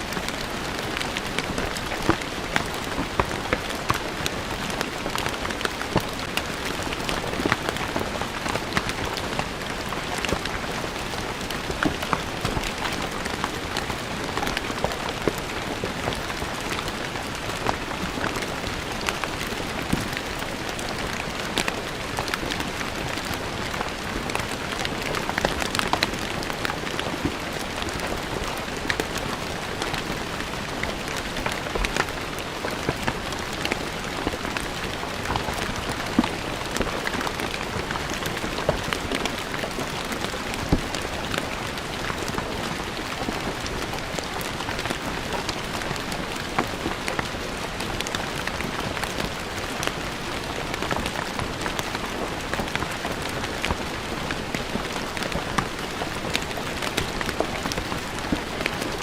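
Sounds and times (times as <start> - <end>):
rain on stone paving: 0.0 - 59.0.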